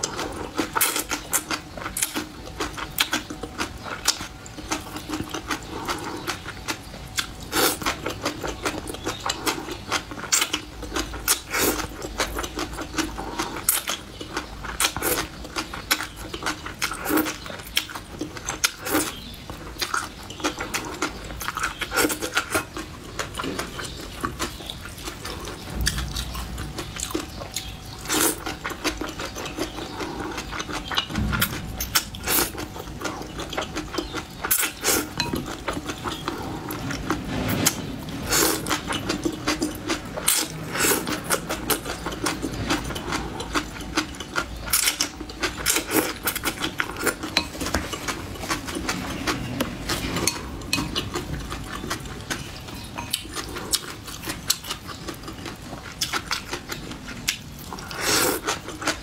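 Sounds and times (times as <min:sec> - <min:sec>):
slurping and chewing noodles: 0:00.0 - 0:59.0.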